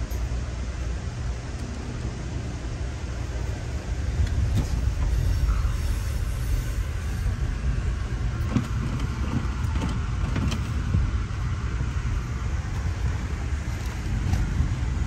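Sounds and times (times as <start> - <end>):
train rumbling from inside: 0.0 - 15.0.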